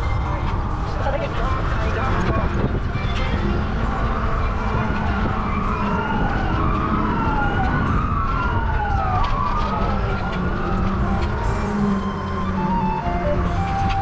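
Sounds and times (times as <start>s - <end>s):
emergency vehicle siren: 0.0s - 14.0s.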